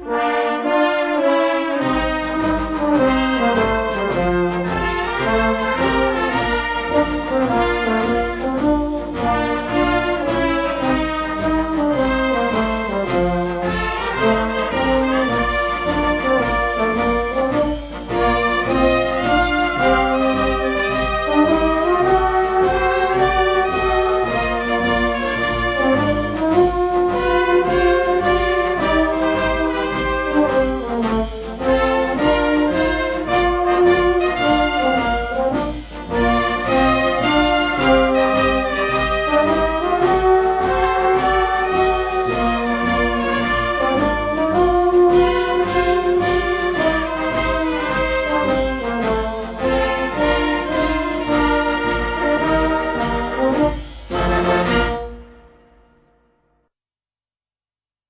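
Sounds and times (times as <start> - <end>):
brass band playing a march: 0.0 - 56.1.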